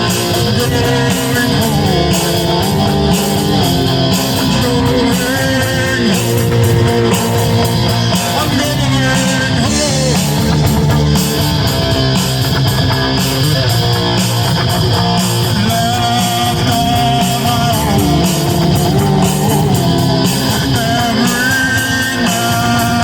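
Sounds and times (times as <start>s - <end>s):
distorted electric guitar: 0.0s - 23.0s
steady beat: 0.0s - 23.0s.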